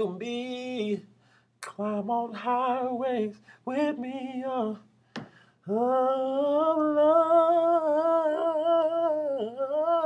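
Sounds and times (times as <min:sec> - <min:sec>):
man singing unaccompanied: 0:00.0 - 0:04.9, 0:05.6 - 0:10.0.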